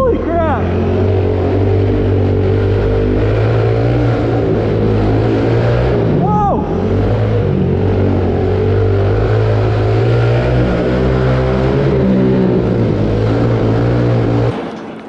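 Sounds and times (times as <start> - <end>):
small motorbike engine running hard: 0.0 - 15.0.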